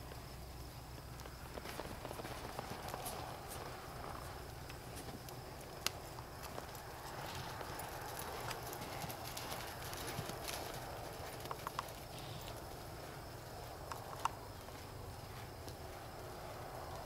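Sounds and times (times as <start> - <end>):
steady background hiss: 0.0 - 17.0
horse hoofbeats on dirt: 1.2 - 17.0.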